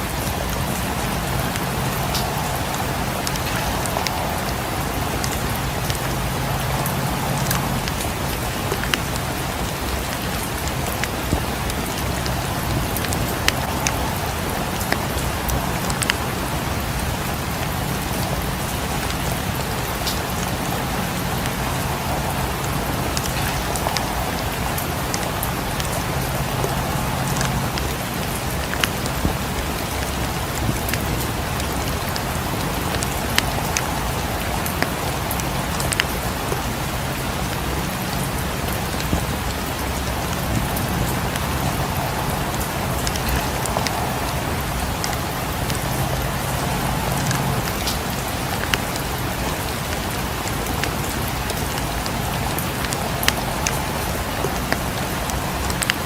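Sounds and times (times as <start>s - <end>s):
fire crackling and popping: 0.0s - 56.0s
rain pattering: 0.0s - 56.0s.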